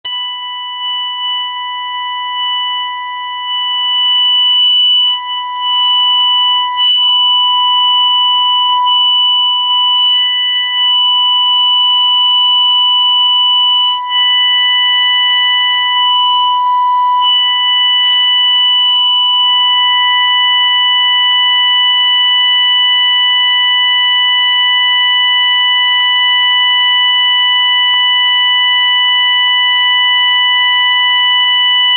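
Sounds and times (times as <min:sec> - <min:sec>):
fire alarm tone: 0:00.0 - 0:31.9.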